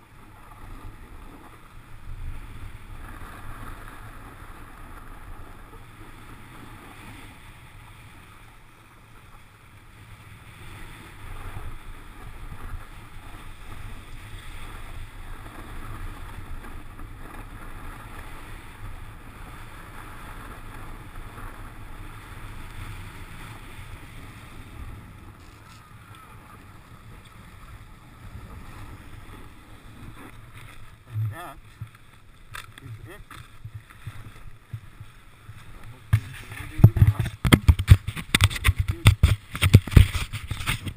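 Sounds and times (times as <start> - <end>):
snowboard sliding over snow: 0.0 - 40.9.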